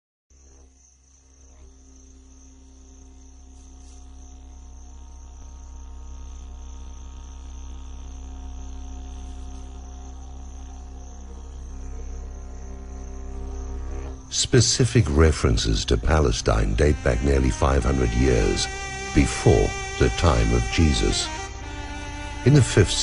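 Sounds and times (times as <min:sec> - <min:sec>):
crickets trilling: 0:00.3 - 0:23.0
low sustained drone: 0:00.5 - 0:23.0.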